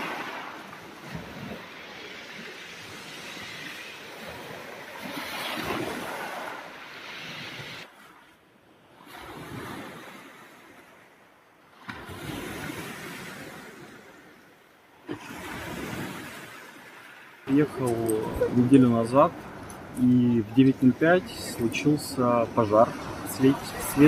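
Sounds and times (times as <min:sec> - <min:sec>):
sea surf washing in: 0:00.0 - 0:08.2, 0:11.8 - 0:14.4, 0:15.0 - 0:24.0
wind: 0:00.0 - 0:24.0.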